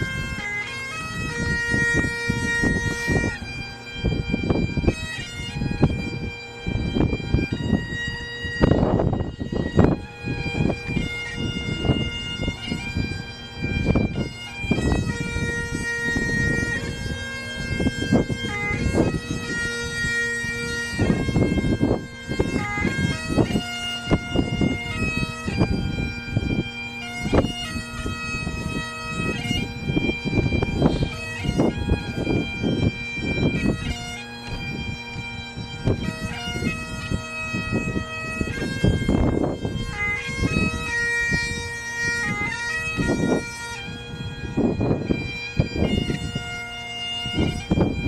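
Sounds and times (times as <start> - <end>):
bagpipes playing slow melody: 0.0 - 48.0
wind rumble on microphone: 0.0 - 48.0.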